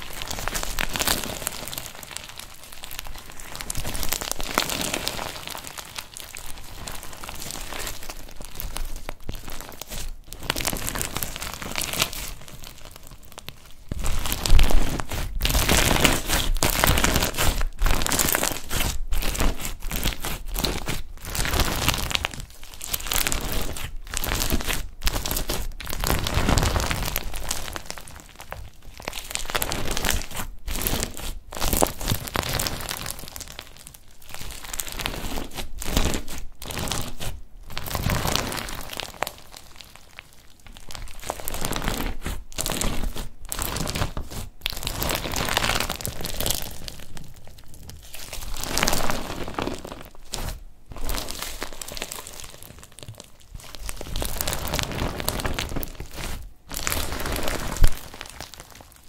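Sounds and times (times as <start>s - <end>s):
crunchy slime squishing: 0.0s - 59.0s.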